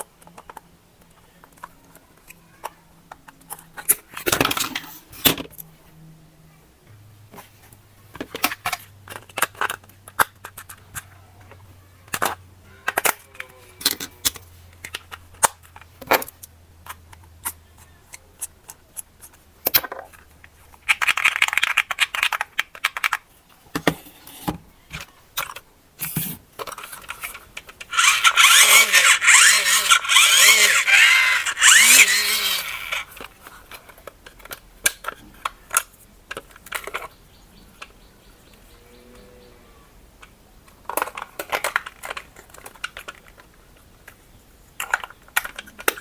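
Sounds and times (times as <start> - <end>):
plastic parts clicking and tapping: 0.0 - 5.7, 7.3 - 38.0, 40.2 - 46.0.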